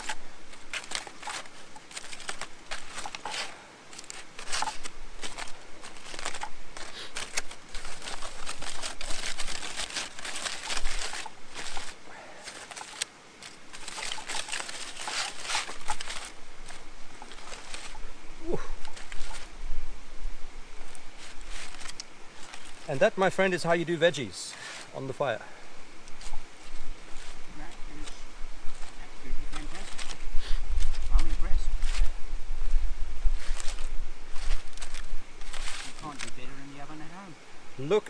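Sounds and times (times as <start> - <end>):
aluminium foil crinkling and tearing: 0.0 - 19.7, 20.7 - 23.9, 26.0 - 32.2, 33.2 - 37.0.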